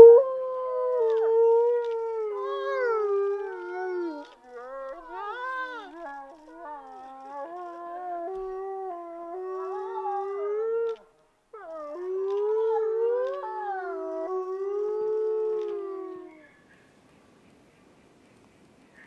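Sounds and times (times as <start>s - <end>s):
wolves howling: 0.0s - 16.5s.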